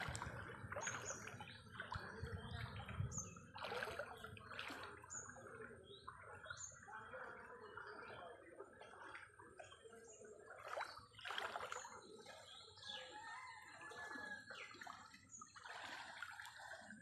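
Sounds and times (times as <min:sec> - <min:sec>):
floodwater splashing and trickling: 0:00.0 - 0:17.0.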